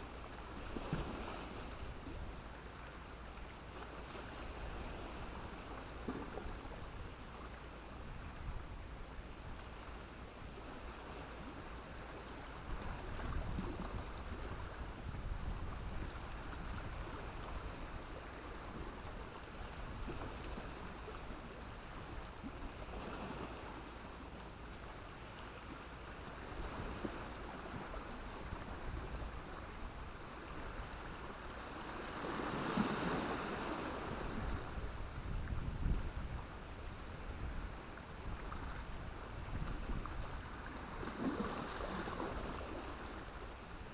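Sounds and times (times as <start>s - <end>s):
sea waves washing on beach: 0.0s - 43.9s.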